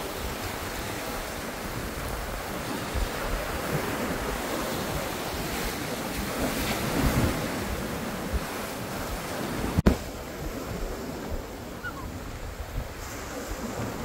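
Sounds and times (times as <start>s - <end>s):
waves breaking on sand: 0.0s - 14.0s
wind buffeting microphone: 0.0s - 14.0s.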